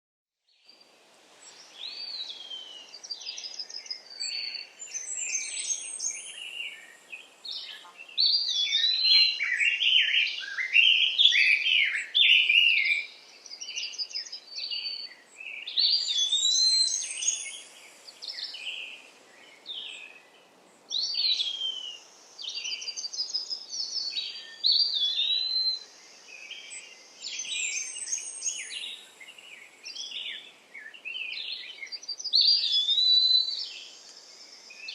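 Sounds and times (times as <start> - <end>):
faint steady hiss: 0.5 - 34.9
songbirds singing and calling: 0.5 - 34.9.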